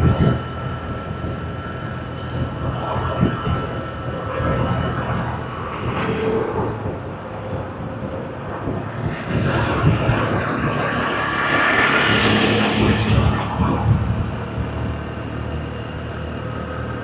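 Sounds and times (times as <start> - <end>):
road traffic engines: 0.0 - 17.0.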